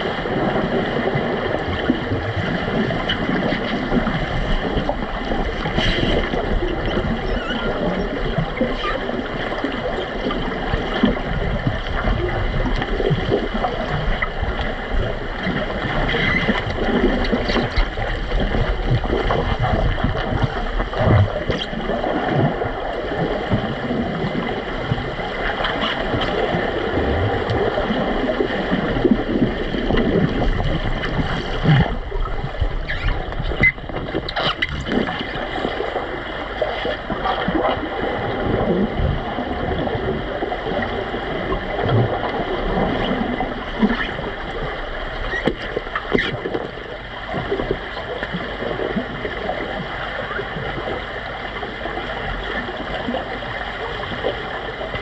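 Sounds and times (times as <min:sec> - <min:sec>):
muffled underwater bubbling: 0:00.0 - 0:55.0.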